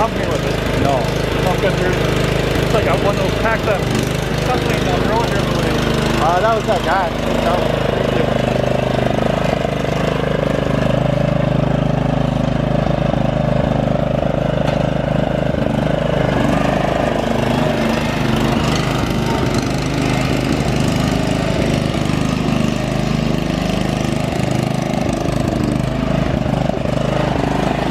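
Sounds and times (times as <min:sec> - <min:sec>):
lawn mower engine running: 0:00.0 - 0:27.9.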